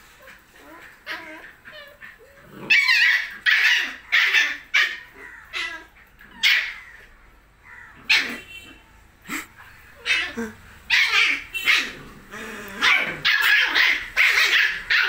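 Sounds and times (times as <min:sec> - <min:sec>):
puppies yipping and barking: 0:00.0 - 0:15.0.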